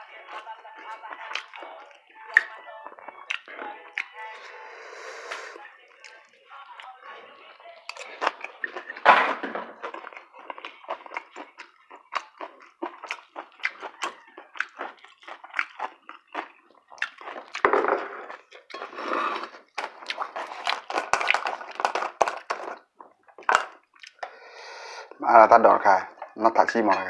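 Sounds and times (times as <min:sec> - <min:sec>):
close chewing and mouth clicks: 0:00.0 - 0:04.6, 0:05.3 - 0:09.0, 0:09.7 - 0:24.2.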